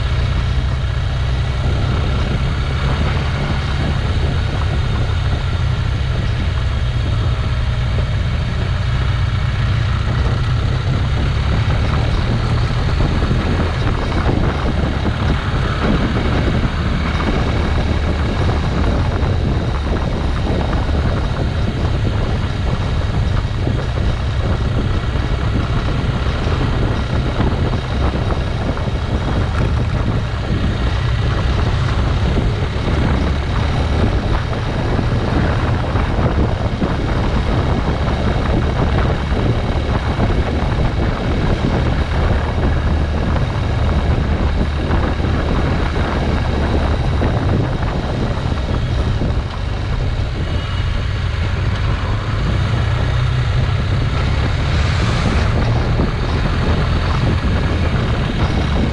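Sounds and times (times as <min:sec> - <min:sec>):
motorcycle engine running: 0:00.0 - 0:58.9
wind buffeting microphone: 0:00.0 - 0:58.9
wind rushing: 0:00.0 - 0:58.9.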